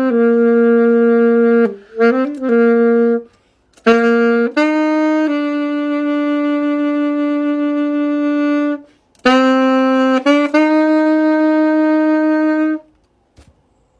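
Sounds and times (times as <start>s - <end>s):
solo saxophone melody: 0.0s - 13.0s.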